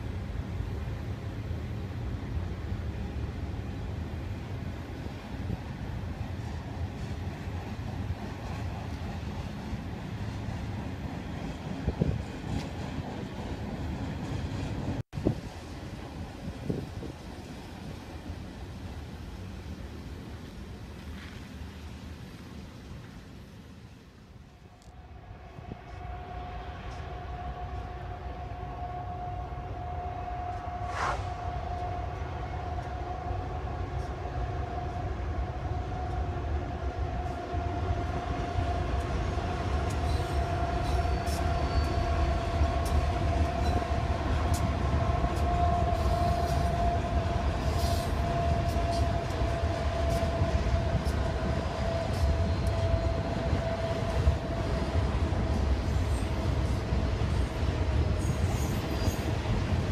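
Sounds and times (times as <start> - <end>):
freight train rumbling past: 0.0 - 59.9
train wheel whine: 0.0 - 59.9.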